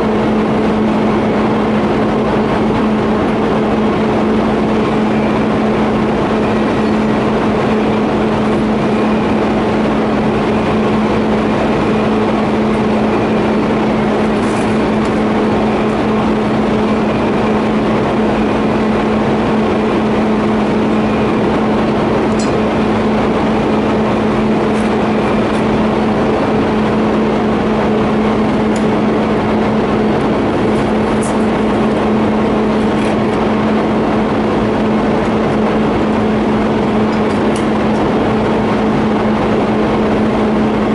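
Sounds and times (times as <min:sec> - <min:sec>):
welding electric buzz: 0:00.0 - 0:40.9.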